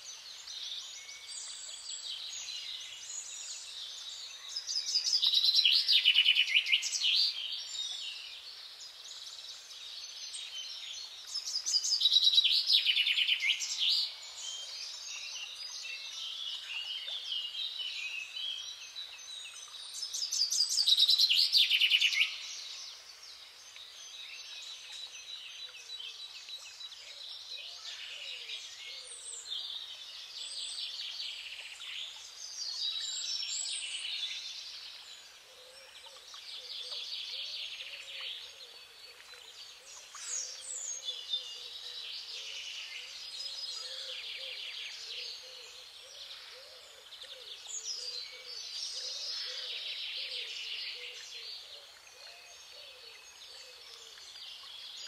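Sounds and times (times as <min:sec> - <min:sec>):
continuous birdsong: 0:00.0 - 0:55.0.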